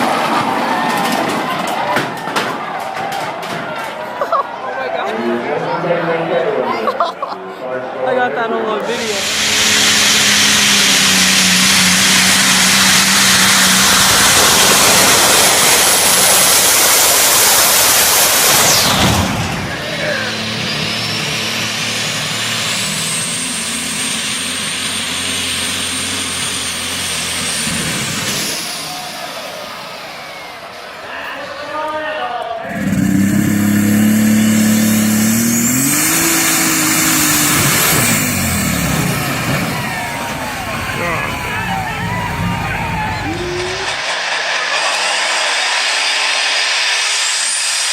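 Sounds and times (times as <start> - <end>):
tractor engine rushing noise: 0.0 - 4.3, 8.8 - 47.9.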